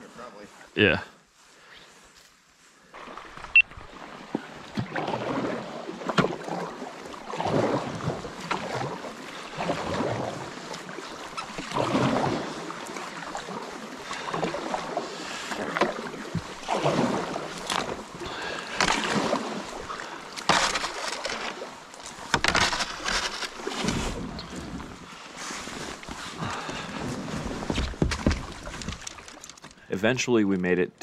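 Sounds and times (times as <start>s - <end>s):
paddle splashing through water: 2.8s - 29.8s.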